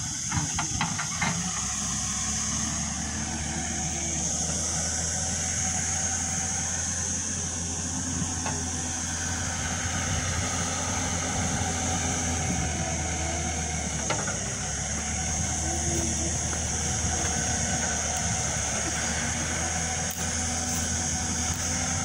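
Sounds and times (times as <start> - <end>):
machine humming: 1.8 - 22.0.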